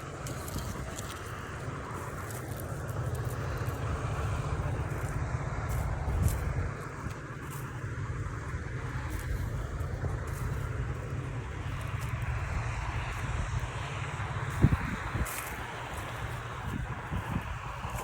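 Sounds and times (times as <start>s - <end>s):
harvester engine running: 0.0s - 18.0s.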